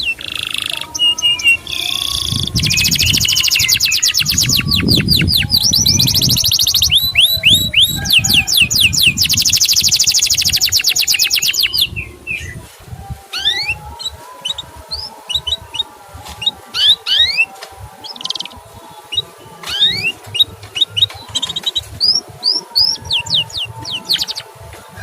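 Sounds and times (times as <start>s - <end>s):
canary chirps: 0.0s - 12.6s, 13.3s - 25.0s
canary trilling: 0.0s - 12.6s, 13.3s - 25.0s.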